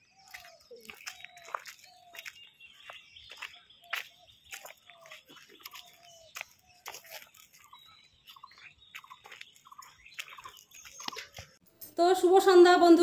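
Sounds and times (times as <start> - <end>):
footsteps on gravel and leaves: 0.0 - 11.6
bird chirps: 0.0 - 11.9.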